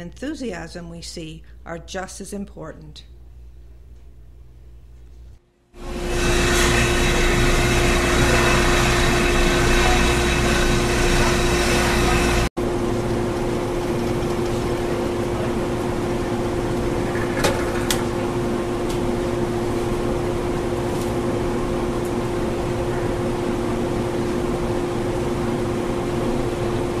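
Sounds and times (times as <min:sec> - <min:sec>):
machine humming: 0:00.0 - 0:27.0.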